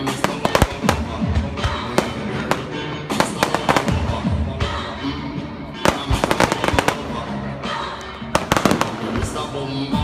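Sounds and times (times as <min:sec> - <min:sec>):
fireworks bangs and crackles: 0:00.0 - 0:04.8, 0:05.8 - 0:07.5, 0:08.2 - 0:10.0.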